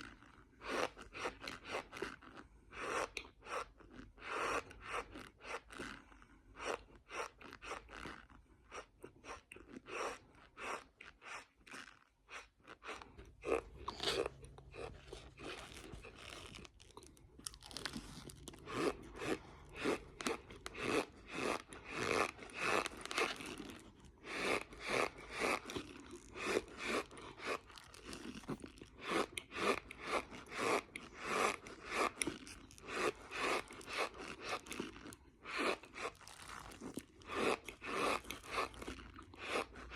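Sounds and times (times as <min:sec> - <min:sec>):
person chewing squeaky crunches: 0:00.0 - 0:39.9.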